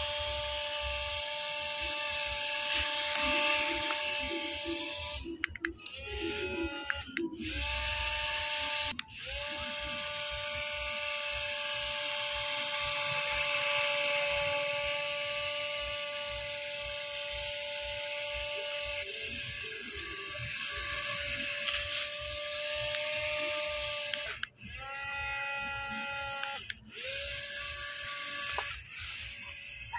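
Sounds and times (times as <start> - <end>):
small electric motor whine: 0.0 - 29.9.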